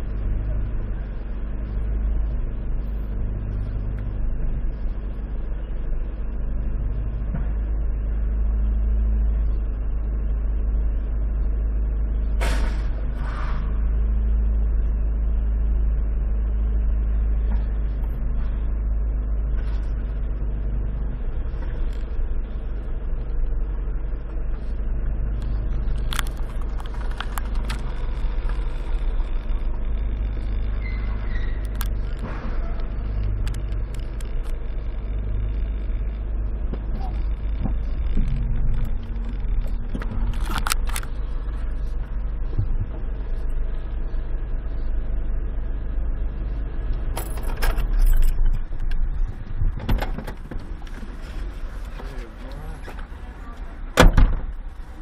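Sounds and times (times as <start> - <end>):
car engine rumble from cabin: 0.0 - 55.0.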